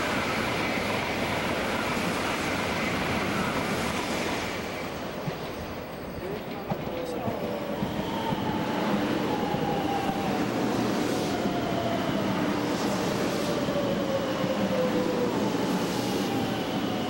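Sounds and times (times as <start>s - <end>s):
high-speed train whine: 0.0s - 17.0s
train wheels and air rumbling: 0.0s - 17.0s.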